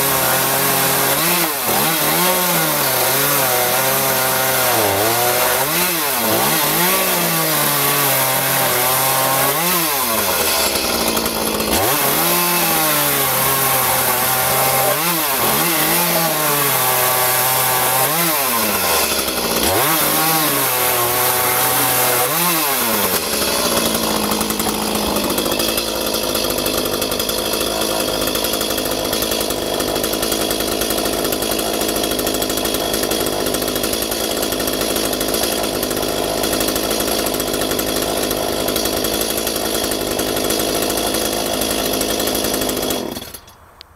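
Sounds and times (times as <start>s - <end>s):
chainsaw revving and idling: 0.0s - 43.6s.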